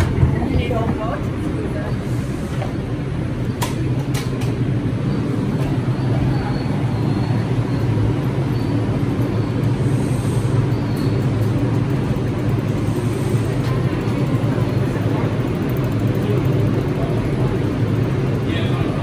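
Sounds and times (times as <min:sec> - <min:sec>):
subway train equipment humming: 0:00.0 - 0:19.0.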